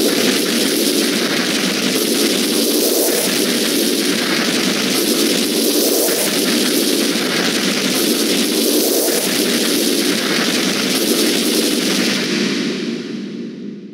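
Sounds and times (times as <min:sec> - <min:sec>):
harsh distorted noise: 0:00.0 - 0:13.9.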